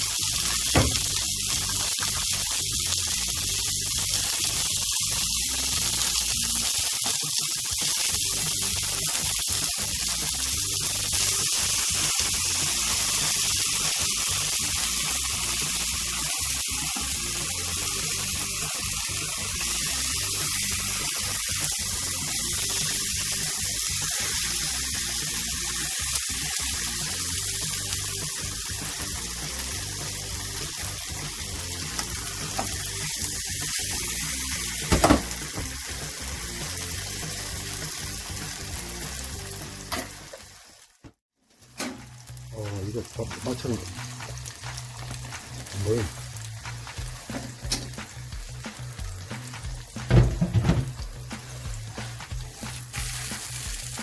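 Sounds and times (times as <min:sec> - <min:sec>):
meat sizzling in a pan: 0:00.0 - 0:54.0.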